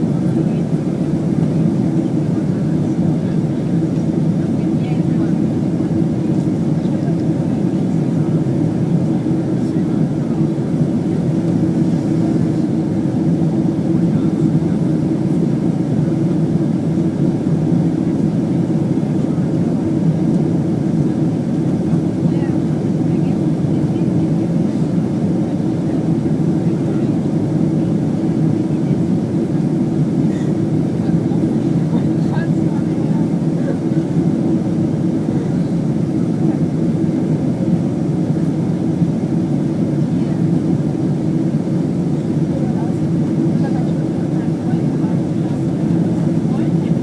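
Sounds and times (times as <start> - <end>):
airliner cabin engine roar: 0.0 - 47.0.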